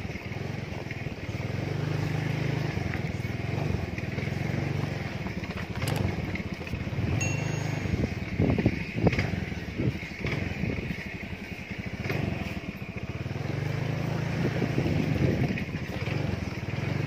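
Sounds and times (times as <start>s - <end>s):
motorcycle knocking and rattling: 0.0s - 17.0s
small motorcycle engine: 0.0s - 17.0s.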